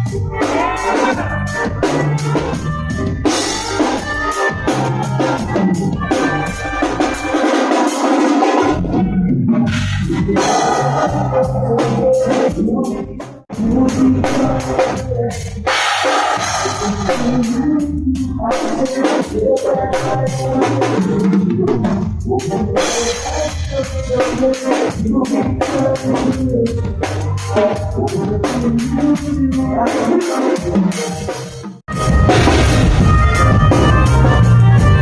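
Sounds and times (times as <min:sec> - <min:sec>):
drum kit with rimshots: 0:00.0 - 0:35.0
reggae band music: 0:00.0 - 0:35.0.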